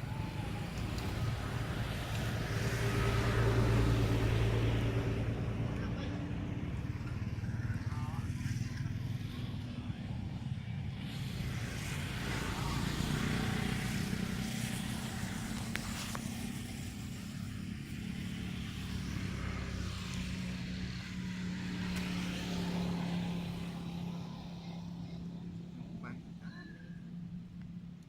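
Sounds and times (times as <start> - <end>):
engine humming: 0.0 - 28.0.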